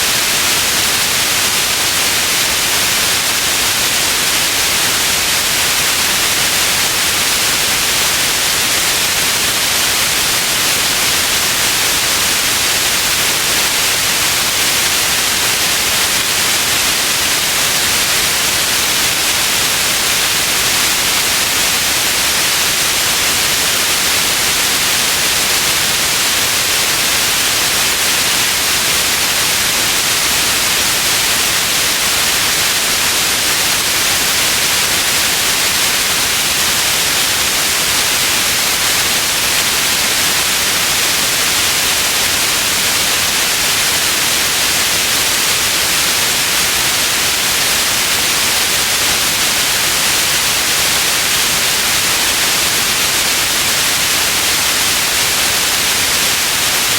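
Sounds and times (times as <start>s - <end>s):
steady white noise hiss: 0.0s - 56.9s.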